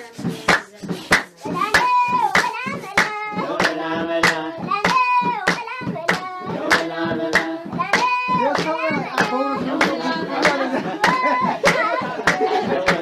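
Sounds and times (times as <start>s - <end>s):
children singing: 0.0s - 13.0s
hand claps: 0.0s - 13.0s.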